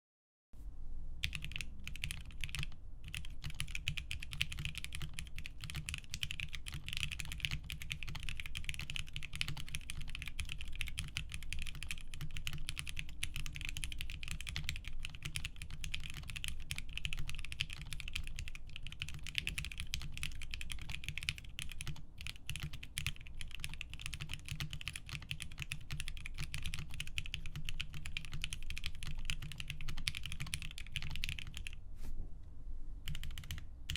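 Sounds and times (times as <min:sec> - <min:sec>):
rapid mechanical keyboard typing: 0:01.2 - 0:31.8, 0:33.0 - 0:33.9.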